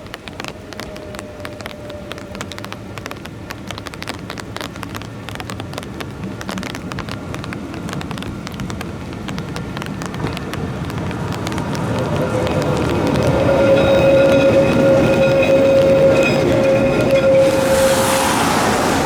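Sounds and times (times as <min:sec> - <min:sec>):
tram clattering on rails: 0:00.0 - 0:19.0
tram low rumble: 0:00.0 - 0:19.0.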